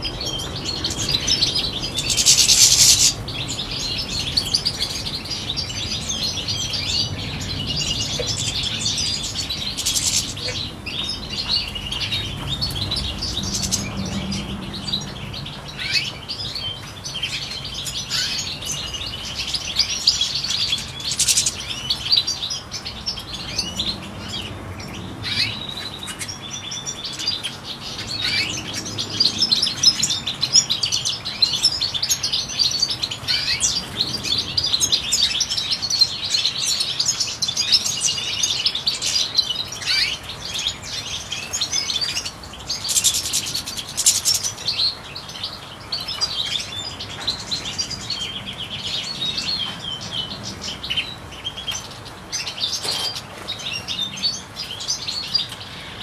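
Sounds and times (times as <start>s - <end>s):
finches chirping and twittering: 0.0s - 56.0s.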